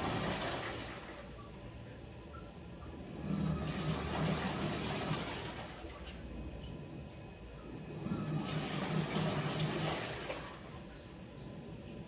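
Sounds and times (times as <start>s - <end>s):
low motor hum: 0.0s - 12.0s
washing machine water churning: 0.0s - 12.0s.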